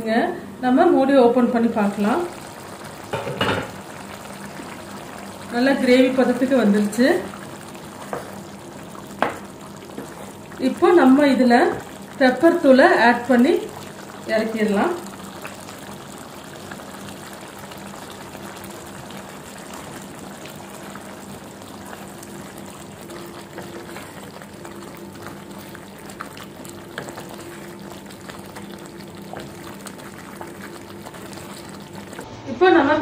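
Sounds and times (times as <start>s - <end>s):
gravy bubbling in a pan: 1.2s - 32.3s.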